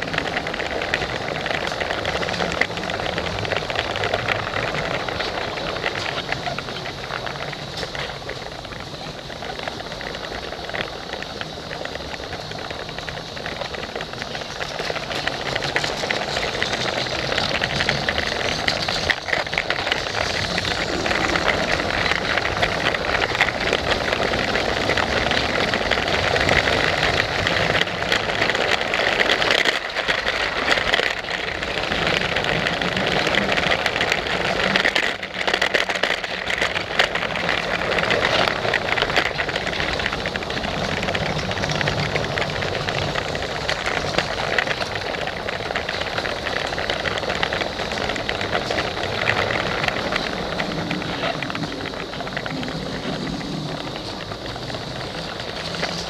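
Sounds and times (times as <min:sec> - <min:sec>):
wheels clattering on track: 0:00.0 - 0:56.0.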